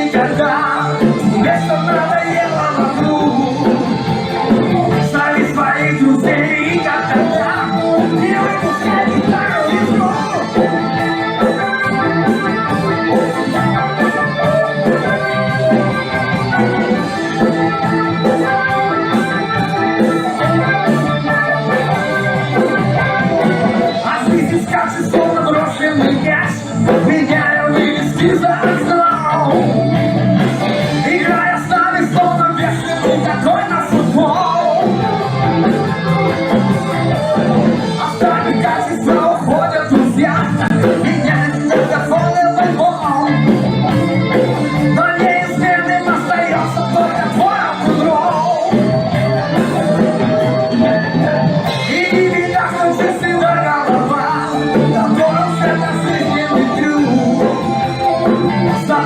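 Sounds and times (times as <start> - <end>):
band playing instrumental: 0.0 - 59.0
held organ chords: 0.0 - 59.0
person singing: 0.0 - 59.0.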